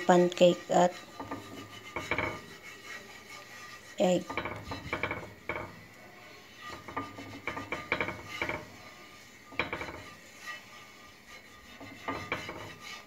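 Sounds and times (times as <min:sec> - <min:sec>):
utensil scraping frying pan: 0:00.0 - 0:13.0.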